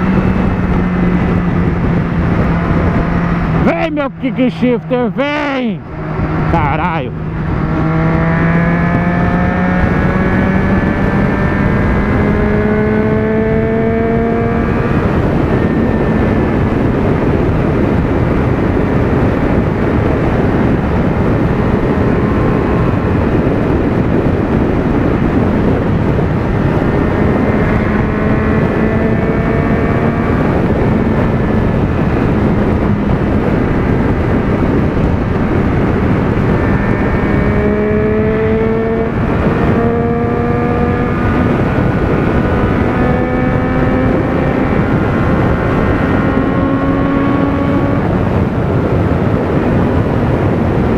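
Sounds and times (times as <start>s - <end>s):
motorcycle engine: 0.0s - 50.9s
wind and road noise: 0.0s - 50.9s.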